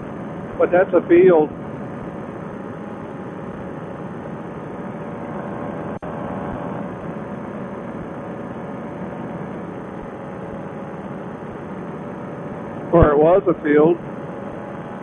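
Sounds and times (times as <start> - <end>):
paramotor engine and propeller drone: 0.0 - 15.0.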